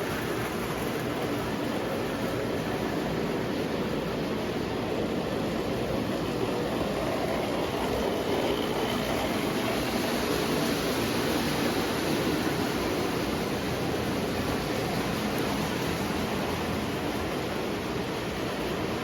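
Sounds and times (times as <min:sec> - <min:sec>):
toy train rumbling on track: 0:00.0 - 0:19.0.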